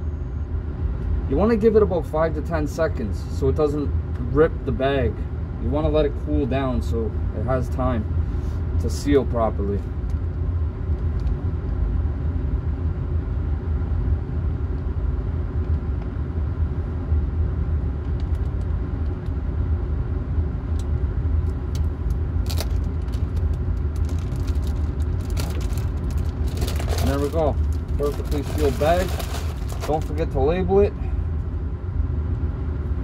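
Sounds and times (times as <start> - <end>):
machine hum and rumble: 0.0 - 33.0.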